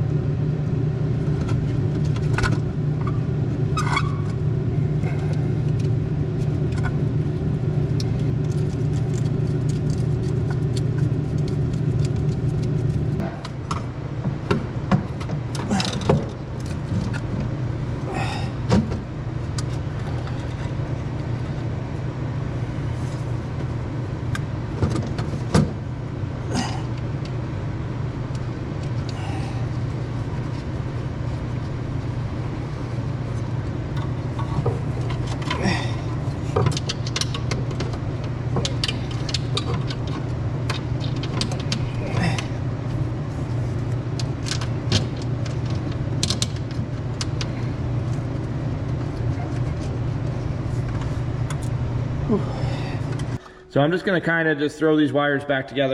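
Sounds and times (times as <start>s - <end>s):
machine humming: 0.0s - 55.1s.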